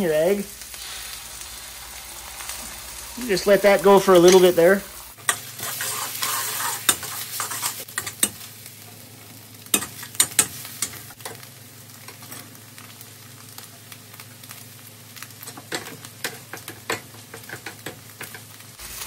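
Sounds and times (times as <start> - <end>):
egg sizzling in oil: 0.0 - 19.0.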